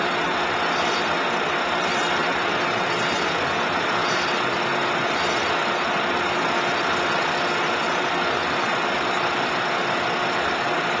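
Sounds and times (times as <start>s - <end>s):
faint constant hum: 0.0s - 11.0s
pneumatic conveyor air rushing: 0.0s - 11.0s.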